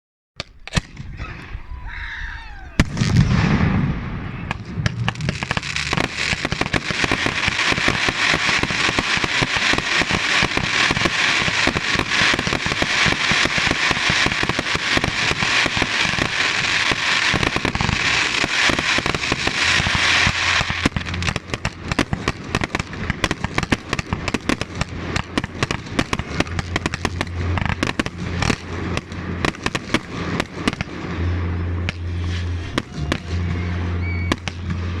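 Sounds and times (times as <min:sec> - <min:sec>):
firework bang: 0:00.4 - 0:35.0
firework whistling: 0:00.4 - 0:35.0
fireworks crackling and popping: 0:00.4 - 0:35.0.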